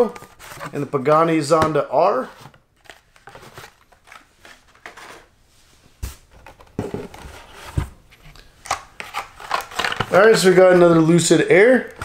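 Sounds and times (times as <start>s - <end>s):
plastic and card rustling: 0.0s - 5.3s, 6.1s - 12.0s.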